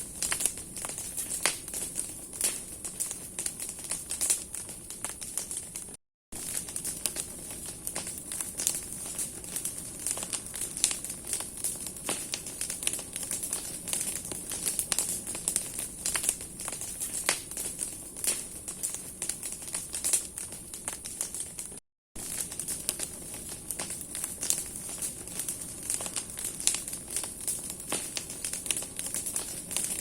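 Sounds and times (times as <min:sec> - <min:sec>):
bonfire crackling and popping: 0:00.0 - 0:30.0
fire hissing: 0:00.1 - 0:30.0.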